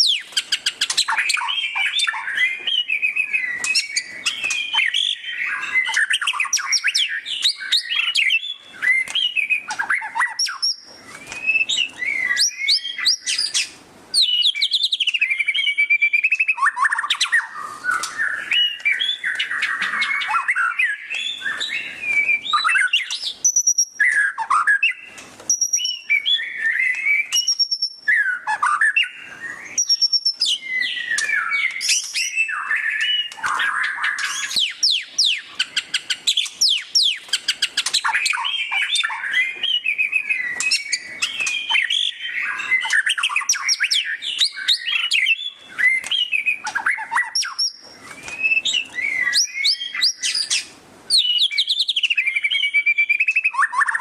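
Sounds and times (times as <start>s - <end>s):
songbird singing whistles and trills: 0.0s - 54.0s.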